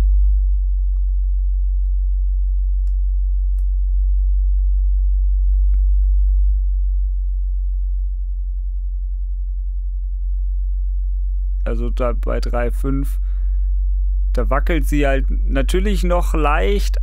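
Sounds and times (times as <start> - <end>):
sub-bass sine tone: 0.0 - 17.0.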